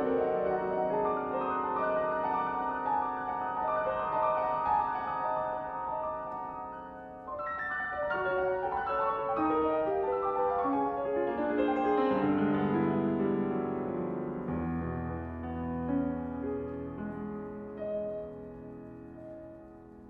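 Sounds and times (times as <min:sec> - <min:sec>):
solo piano: 0:00.0 - 0:20.0.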